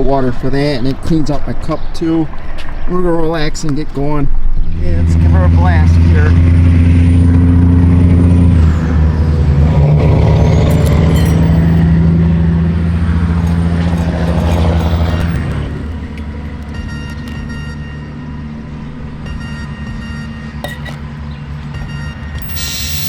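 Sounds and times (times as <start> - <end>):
large engine deep hum: 4.3 - 23.0.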